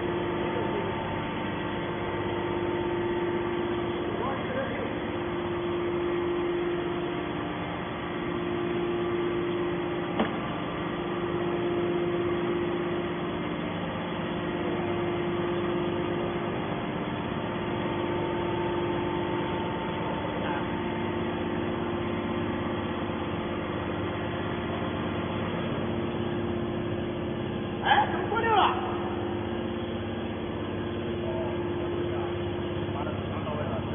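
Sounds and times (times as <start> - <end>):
baler motor and pump humming: 0.0 - 33.9.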